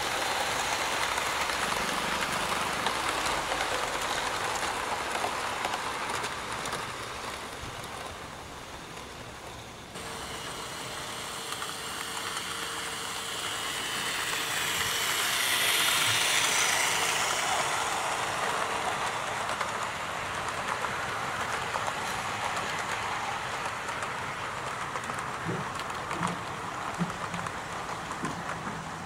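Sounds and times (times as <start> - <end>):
model train wheels whirring on rail: 0.0 - 29.0.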